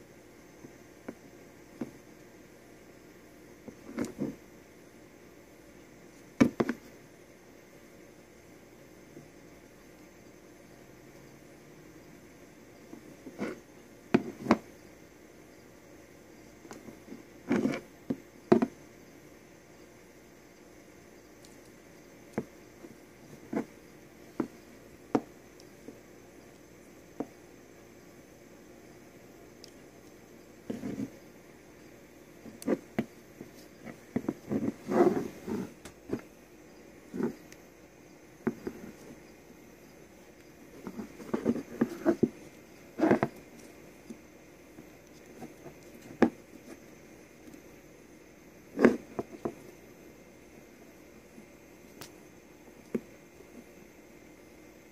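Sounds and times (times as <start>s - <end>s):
faint steady hiss: 0.0s - 54.9s.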